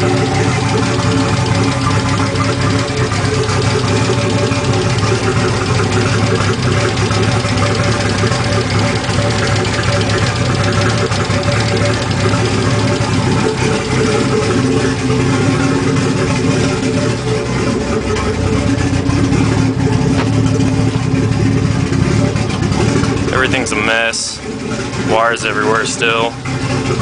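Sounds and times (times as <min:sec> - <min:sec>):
engine idling roughly: 0:00.0 - 0:27.0
valvetrain ticking: 0:00.0 - 0:27.0.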